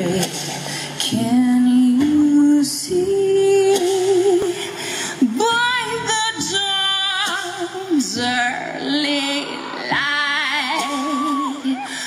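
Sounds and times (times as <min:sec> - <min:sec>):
woman singing over loudspeaker: 0:00.0 - 0:12.0.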